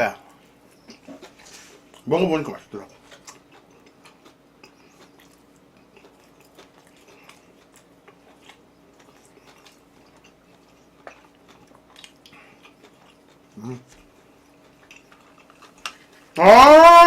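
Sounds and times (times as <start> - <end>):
person chewing food: 0.3 - 2.1, 2.7 - 16.4.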